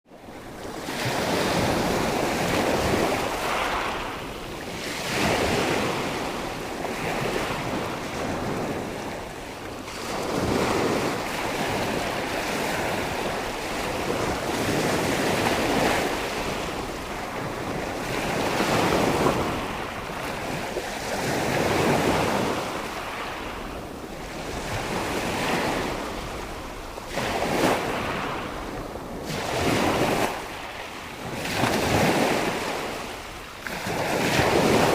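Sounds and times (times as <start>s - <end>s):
waves breaking on shore: 0.1s - 34.9s
wind buffeting microphone: 0.2s - 34.9s.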